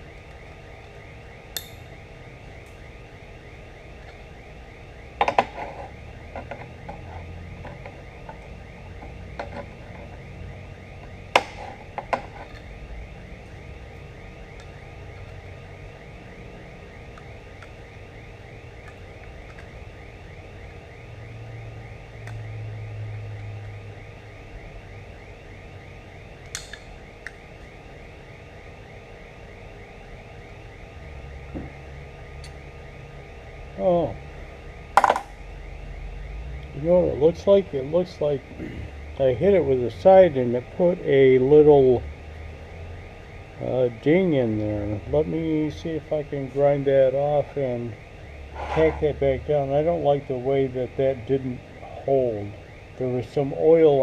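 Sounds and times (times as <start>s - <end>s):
steady shop hum: 0.0s - 54.0s.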